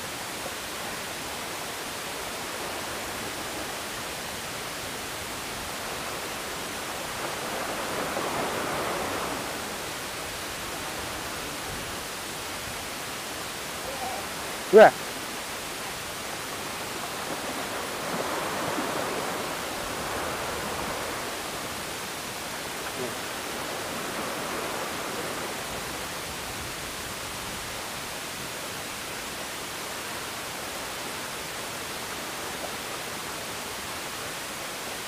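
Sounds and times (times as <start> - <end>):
sea surf against concrete blocks: 0.0 - 35.0.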